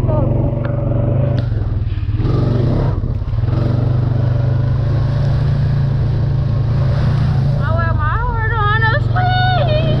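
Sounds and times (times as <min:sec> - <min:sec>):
off-road vehicle engine: 0:00.0 - 0:10.0.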